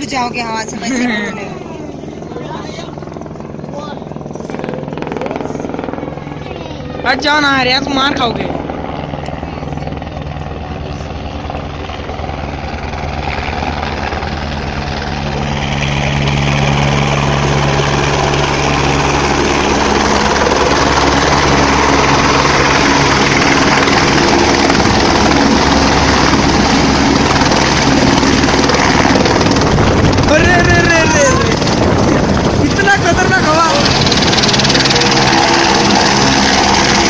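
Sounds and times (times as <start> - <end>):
helicopter rotor and engine: 0.0 - 37.0.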